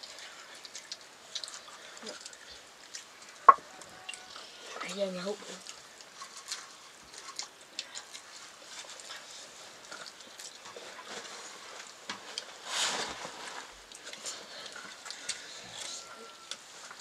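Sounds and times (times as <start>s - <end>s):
chewing: 0.0s - 12.6s, 13.7s - 17.0s.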